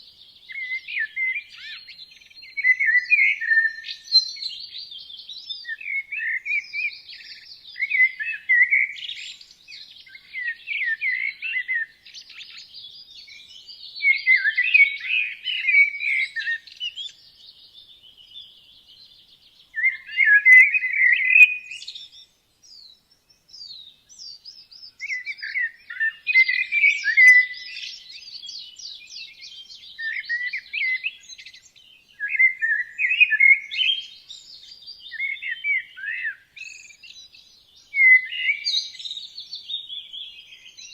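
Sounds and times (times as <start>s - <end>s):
songbirds twittering: 0.0s - 40.9s.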